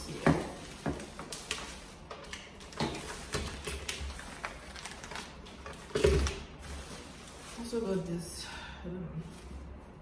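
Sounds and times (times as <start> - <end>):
plastic bag rustling: 0.0 - 8.4.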